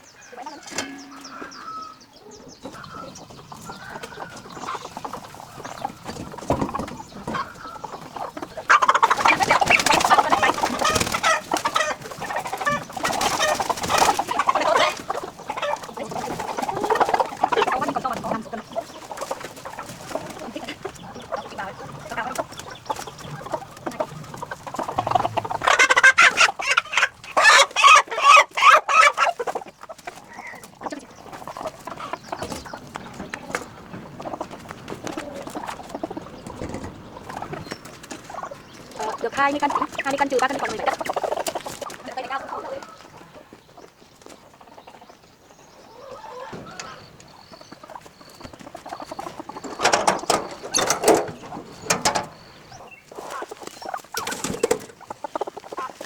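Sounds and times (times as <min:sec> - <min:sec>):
chickens clucking and squawking: 0:00.0 - 0:56.0.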